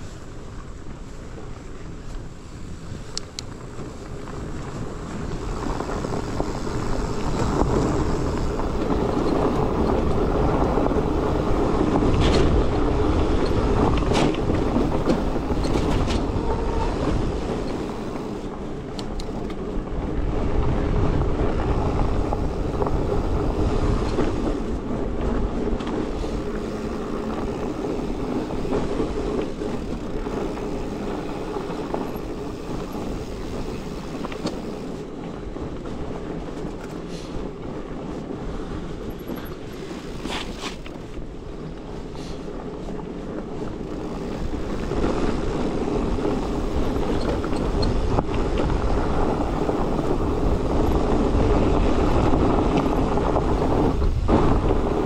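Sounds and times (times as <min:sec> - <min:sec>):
bike tyres on rough trail: 0:00.0 - 0:55.0
wind buffeting microphone: 0:00.0 - 0:55.0
bike clicks and knocks: 0:00.4 - 0:55.0.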